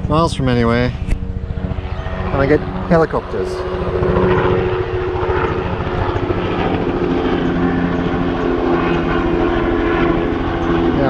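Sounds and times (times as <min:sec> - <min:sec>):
helicopter engine drone: 0:00.0 - 0:11.0
helicopter rotor chop: 0:00.0 - 0:11.0.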